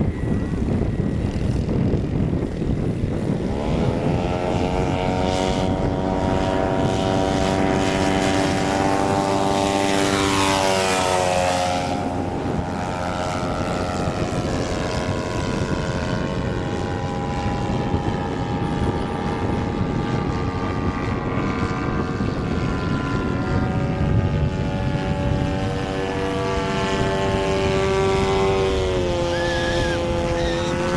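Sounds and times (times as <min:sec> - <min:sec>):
model airplane engine and propeller: 0:00.0 - 0:30.9.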